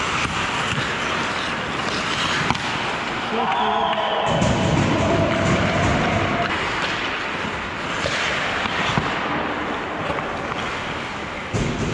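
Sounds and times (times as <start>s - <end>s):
skate blades scraping ice: 0.0s - 3.4s, 5.4s - 11.9s
hockey sticks and puck clacking: 0.0s - 11.9s.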